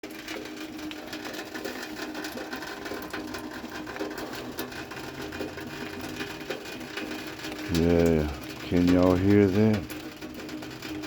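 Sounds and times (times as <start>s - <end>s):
rain patter: 0.0s - 11.0s.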